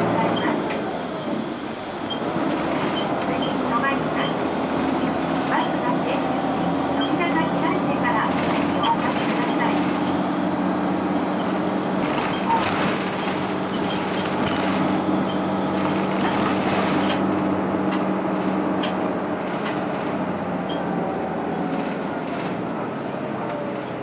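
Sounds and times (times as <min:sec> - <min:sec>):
bus diesel engine drone: 0:00.0 - 0:24.0
road noise: 0:00.0 - 0:24.0.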